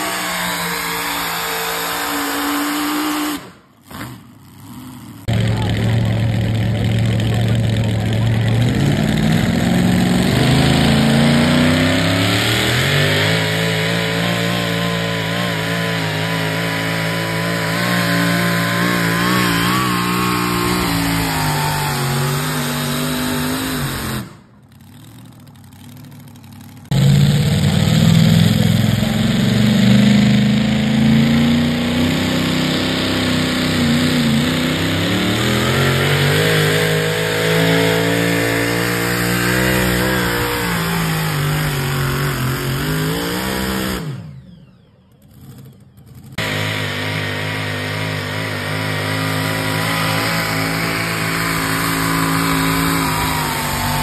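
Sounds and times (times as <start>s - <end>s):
truck engines at full throttle: 0.0s - 54.0s.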